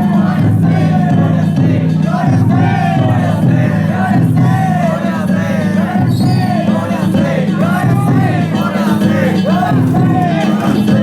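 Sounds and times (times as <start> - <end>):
crowd chanting and shouting: 0.0 - 11.0
festival music: 0.0 - 11.0.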